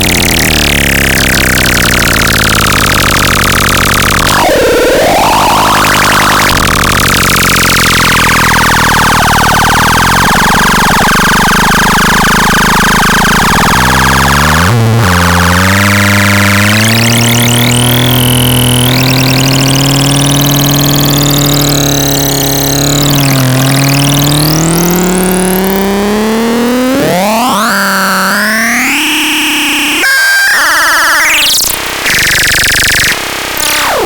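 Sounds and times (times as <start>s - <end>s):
synthesizer tone bending in pitch: 0.0s - 34.0s.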